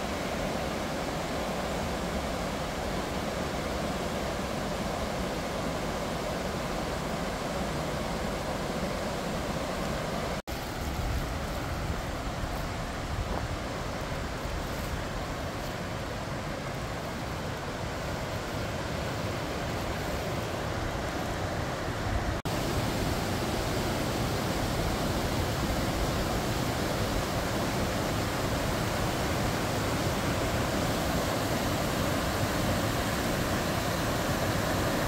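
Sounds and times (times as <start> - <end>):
river rapids rushing: 0.0 - 35.0.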